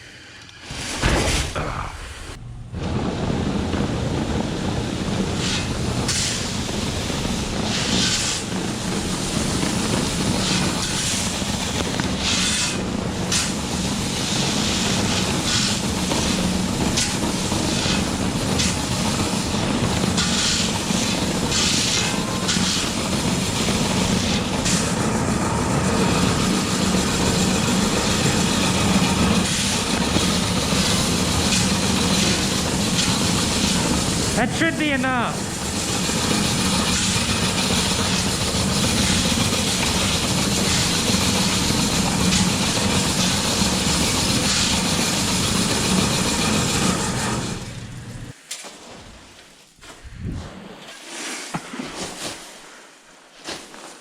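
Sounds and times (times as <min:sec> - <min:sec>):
large machine engine hum: 0:01.8 - 0:48.4.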